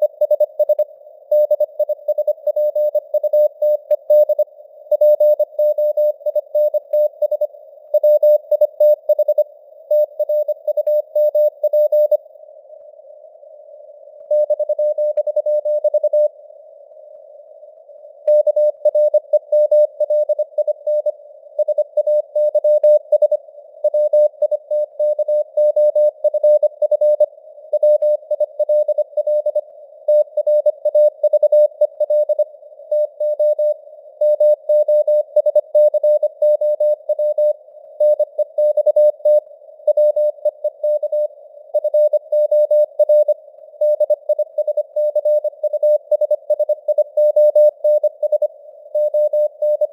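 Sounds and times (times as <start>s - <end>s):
morse code beeps: 0.0s - 12.2s, 14.3s - 16.3s, 18.3s - 32.4s, 33.0s - 49.9s.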